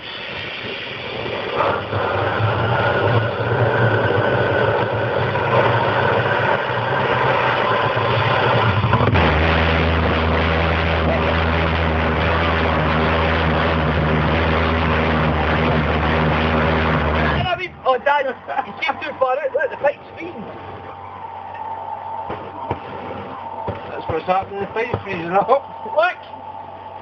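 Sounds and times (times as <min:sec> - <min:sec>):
pulse jet engine buzzing drone: 0:00.0 - 0:27.0.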